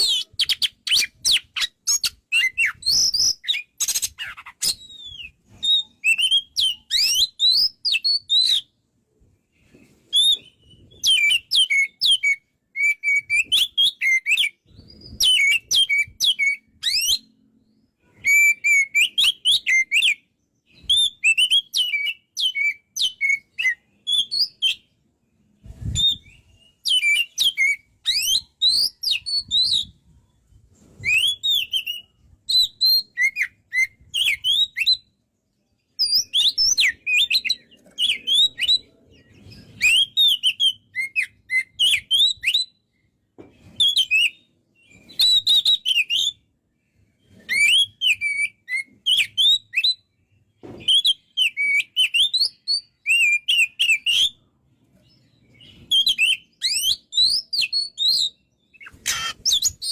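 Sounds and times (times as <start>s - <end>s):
magpie-robin singing: 0.0s - 8.8s, 10.1s - 25.0s, 25.8s - 30.0s, 31.0s - 35.1s, 35.8s - 42.9s, 43.6s - 46.4s, 47.3s - 50.1s, 50.8s - 54.4s, 55.0s - 59.9s.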